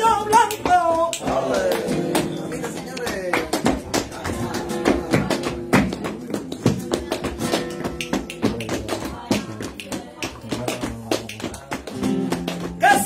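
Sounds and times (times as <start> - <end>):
people clapping hands: 0.0 - 13.0.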